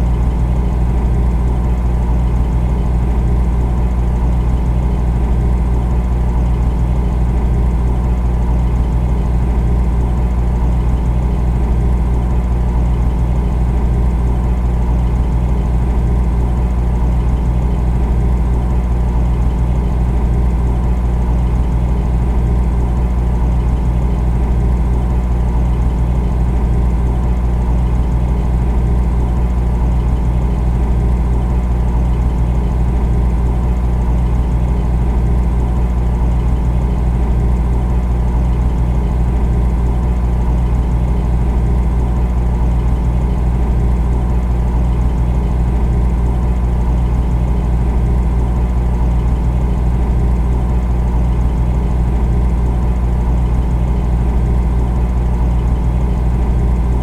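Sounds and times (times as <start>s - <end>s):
refrigerator humming: 0.0s - 57.0s.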